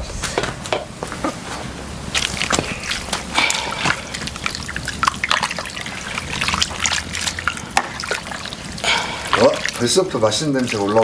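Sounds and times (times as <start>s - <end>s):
soup trickling and sloshing: 1.6s - 11.0s.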